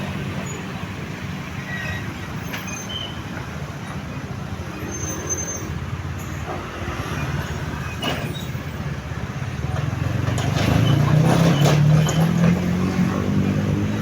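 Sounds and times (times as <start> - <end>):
heavy vehicle engine rumble: 0.0 - 14.0
road and traffic noise: 0.0 - 14.0.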